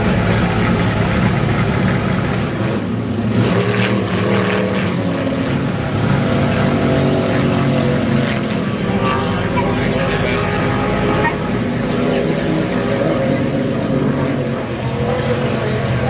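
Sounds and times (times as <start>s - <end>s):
racing boat engines droning: 0.0s - 16.0s.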